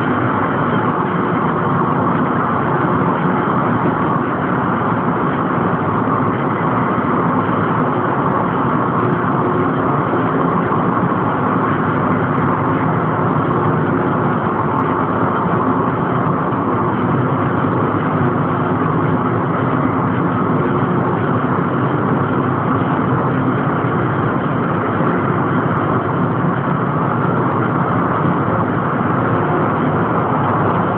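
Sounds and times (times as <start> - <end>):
loud machinery drone: 0.0 - 30.9.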